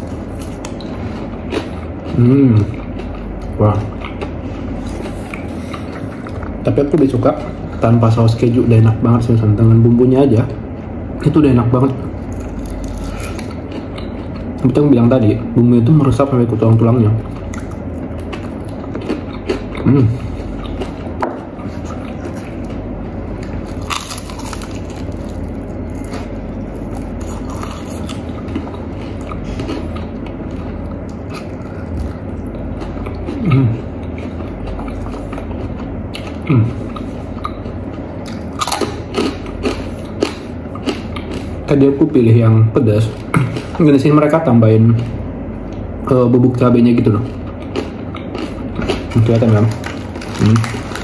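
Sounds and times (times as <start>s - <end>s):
chewing crispy fried chicken: 0.0s - 8.9s, 11.8s - 42.1s, 46.5s - 51.0s.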